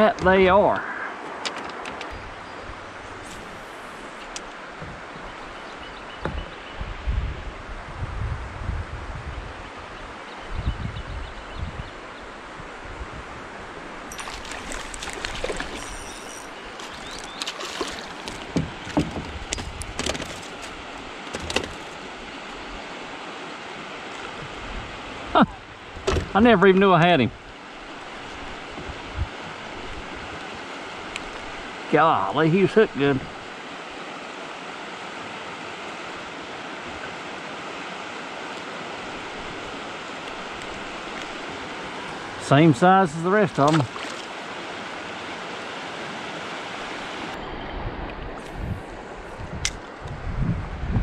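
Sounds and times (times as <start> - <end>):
water lapping around kayak: 2.1 - 7.8, 11.2 - 26.6, 27.4 - 32.0, 33.2 - 42.5, 43.3 - 50.9.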